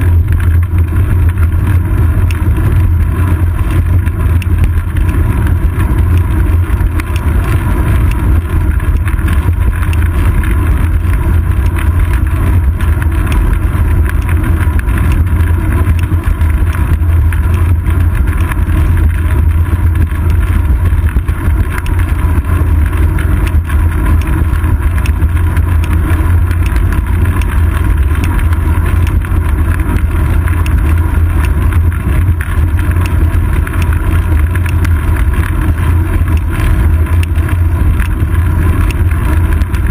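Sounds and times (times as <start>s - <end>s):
tyre and road noise: 0.0s - 39.9s
wind rushing over microphone: 0.0s - 39.9s.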